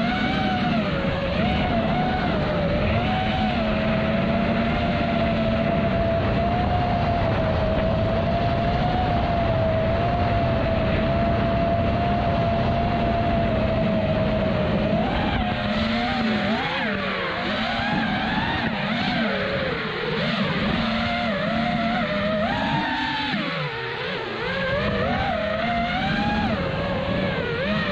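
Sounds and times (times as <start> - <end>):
drone motors whining: 0.0 - 27.9
wind noise on microphone: 0.0 - 27.9.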